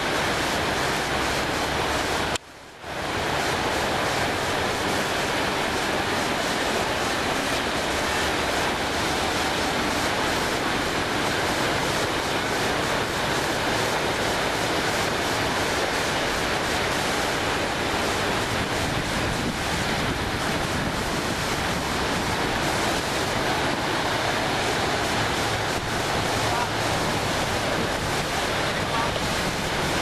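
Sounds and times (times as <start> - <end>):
surf washing onto beach: 0.0 - 30.0
wind noise on microphone: 0.0 - 30.0.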